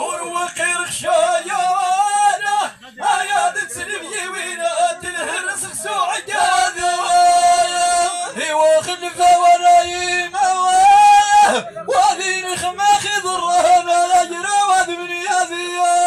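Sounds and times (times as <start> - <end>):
man chanting through microphone: 0.0 - 16.0.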